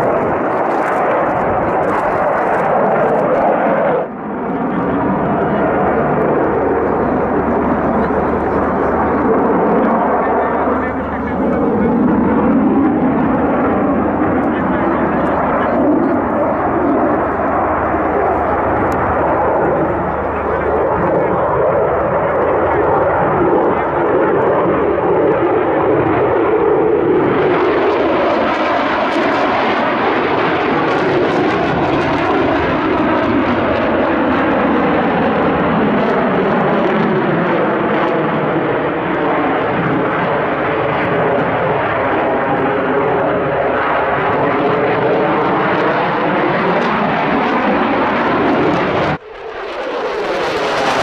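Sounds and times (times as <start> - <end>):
jet fighter flying past: 0.0 - 51.0.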